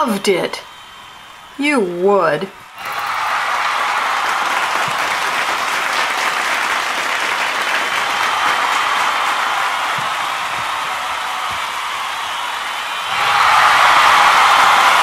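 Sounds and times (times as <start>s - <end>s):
audience applauding: 2.6s - 15.0s.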